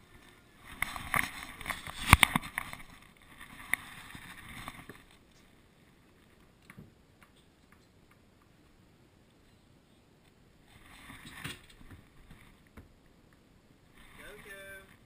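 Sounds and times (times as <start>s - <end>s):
rustling: 0.0s - 12.8s, 13.9s - 15.0s.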